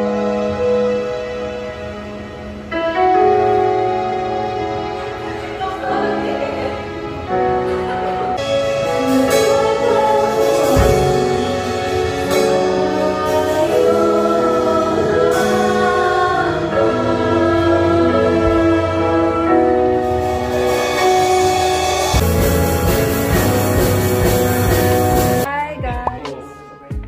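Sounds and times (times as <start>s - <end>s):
singers holding long notes: 0.0s - 25.4s
band playing slow song: 0.0s - 27.0s.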